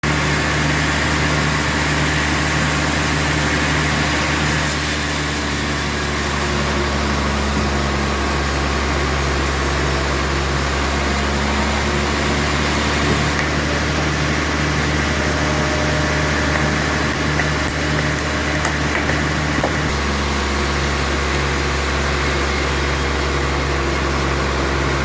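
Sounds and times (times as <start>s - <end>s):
sawmill machinery motor hum: 0.0s - 25.0s.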